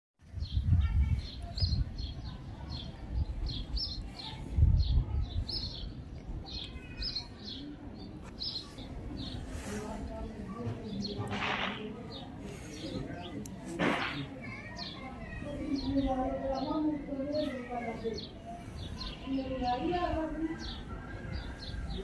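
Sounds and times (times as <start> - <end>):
small birds chirping: 0.2 - 22.0.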